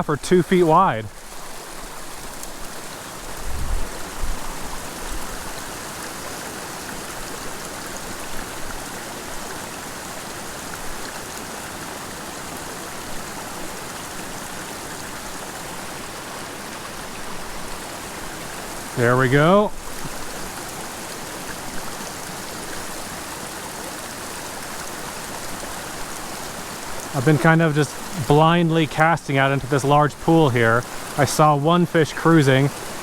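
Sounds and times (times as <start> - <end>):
creek babbling over rocks: 0.0 - 33.0.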